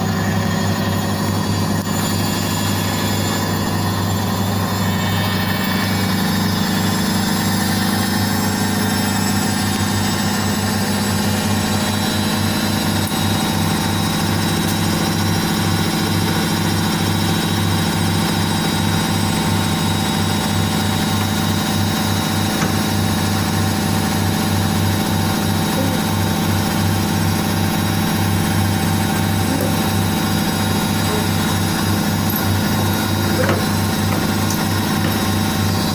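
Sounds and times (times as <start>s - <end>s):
washing machine spinning: 0.0s - 35.9s.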